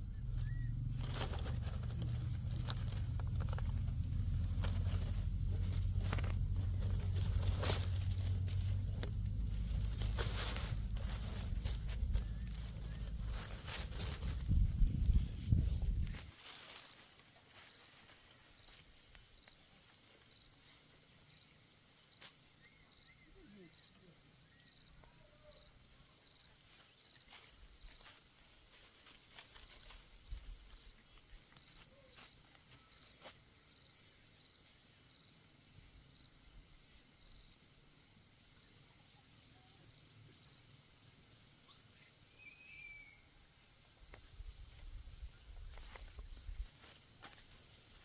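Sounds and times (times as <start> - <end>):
insects chirping: 0.0 - 48.0.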